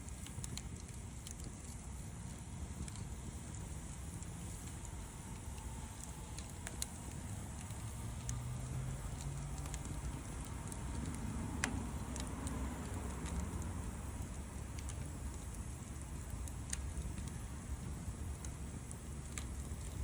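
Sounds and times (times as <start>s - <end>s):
low steady rumble: 0.0s - 20.0s
wood fire crackling: 0.0s - 20.0s.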